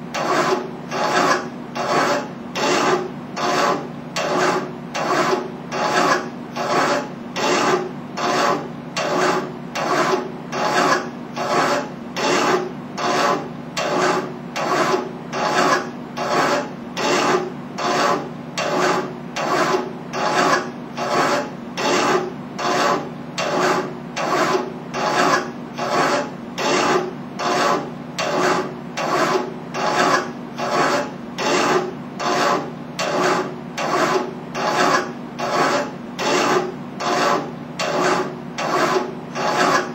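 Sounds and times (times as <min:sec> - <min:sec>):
hand file rasping on metal: 0:00.2 - 0:39.9.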